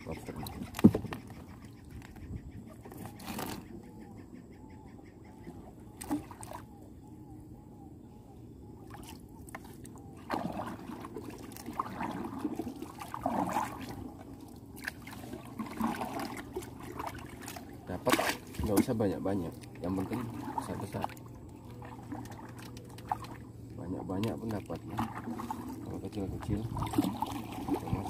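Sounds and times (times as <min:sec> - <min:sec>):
water splashing and trickling: 0:00.0 - 0:03.8, 0:05.5 - 0:06.8, 0:08.8 - 0:28.0.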